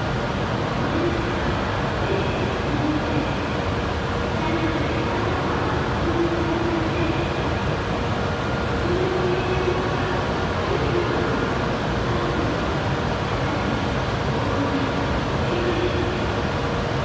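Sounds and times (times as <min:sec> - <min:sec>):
train humming with rushing air: 0:00.0 - 0:17.0.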